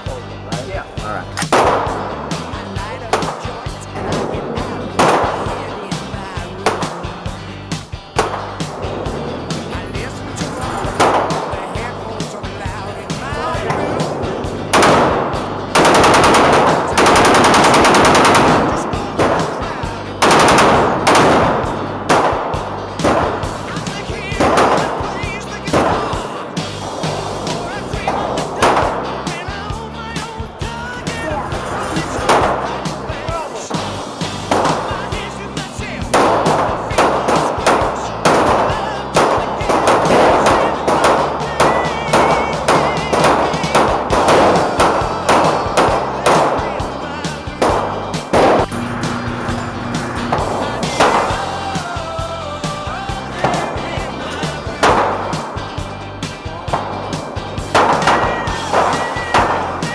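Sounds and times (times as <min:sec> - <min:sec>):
background music: 0:00.0 - 0:59.9
gunshots: 0:01.3 - 0:59.9
rapid gunfire: 0:01.4 - 0:07.2, 0:08.2 - 0:29.7, 0:31.0 - 0:52.0, 0:52.6 - 0:55.6, 0:56.5 - 0:59.9.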